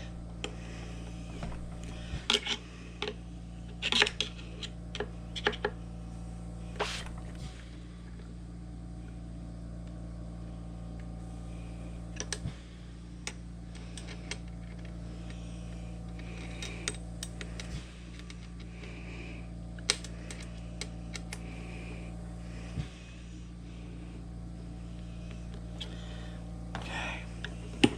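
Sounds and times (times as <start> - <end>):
low electrical hum: 0.0 - 27.9.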